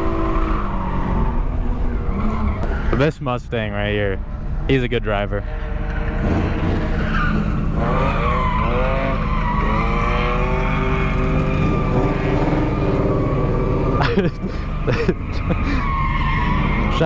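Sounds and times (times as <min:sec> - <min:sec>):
car engine revving: 0:00.0 - 0:17.0
tyres skidding: 0:00.0 - 0:17.0.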